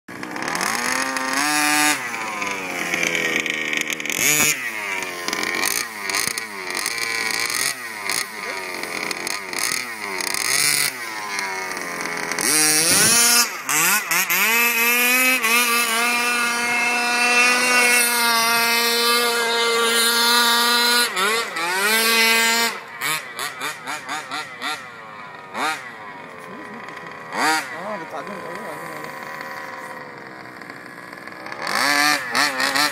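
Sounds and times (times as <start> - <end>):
two-stroke engine revving: 0.1 - 32.9.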